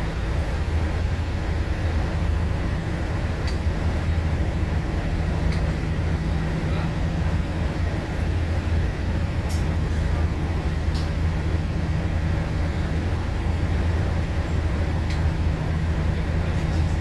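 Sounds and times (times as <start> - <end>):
bus engine droning: 0.0 - 17.0
road noise: 0.0 - 17.0.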